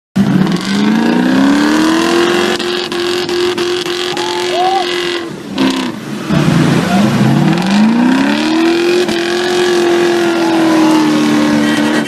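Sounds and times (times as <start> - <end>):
loud engine revving: 0.2 - 12.0.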